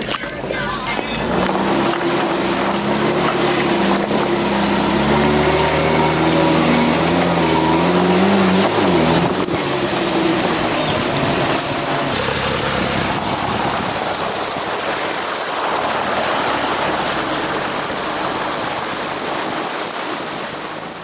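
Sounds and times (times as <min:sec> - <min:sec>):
vehicle engine running low: 0:00.0 - 0:21.0
water rushing and splashing: 0:00.0 - 0:21.0.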